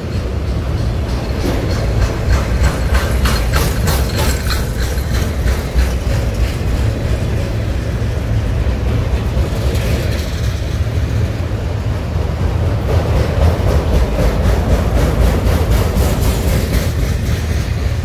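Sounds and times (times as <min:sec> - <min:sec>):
freight cars rumbling on rails: 0:00.0 - 0:18.0.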